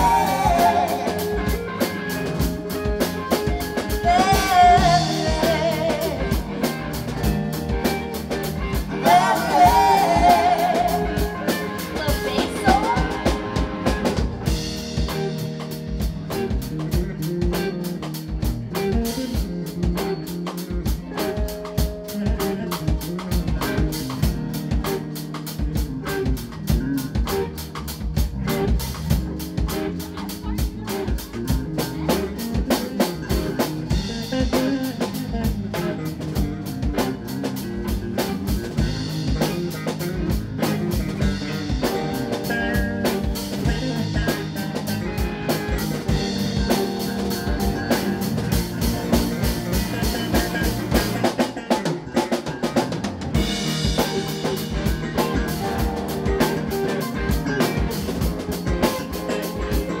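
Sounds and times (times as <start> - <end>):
drum kit hitting steadily: 0.0 - 60.0
electric bass: 0.0 - 60.0
electric guitars: 0.0 - 60.0.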